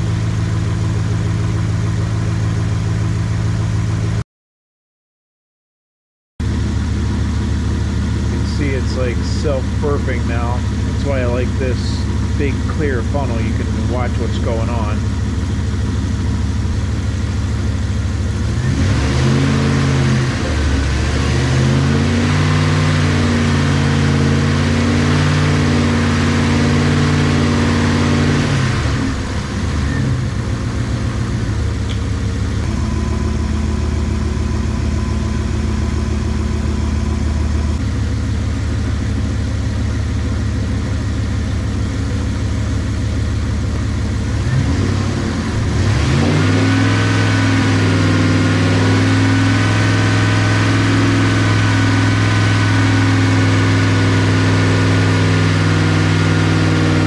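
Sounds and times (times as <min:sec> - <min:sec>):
car engine idling: 0:00.0 - 0:04.2, 0:06.4 - 0:57.0.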